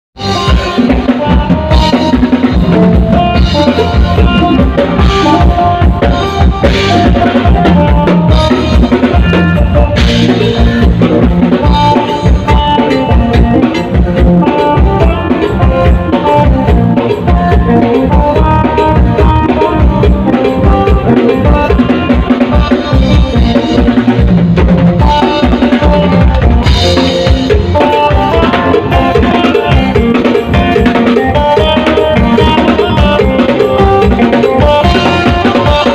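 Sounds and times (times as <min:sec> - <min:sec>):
drum kit beat: 0:00.2 - 0:35.9
electric bass: 0:00.2 - 0:35.9.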